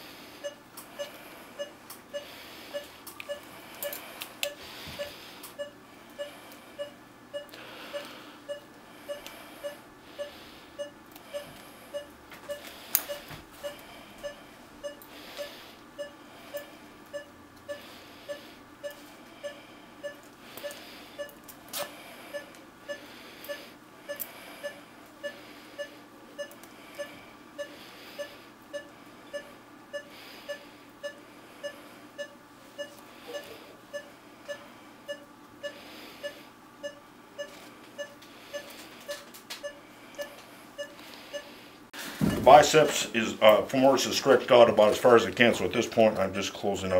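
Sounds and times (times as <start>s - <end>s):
monitor beeping: 0.4s - 41.6s, 42.2s - 43.1s.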